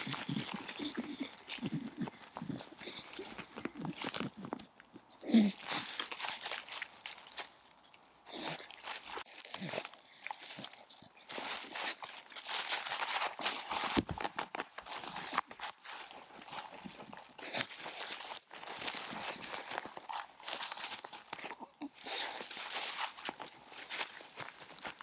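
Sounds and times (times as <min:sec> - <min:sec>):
dry leaves rustling and crunching: 0:00.0 - 0:25.0.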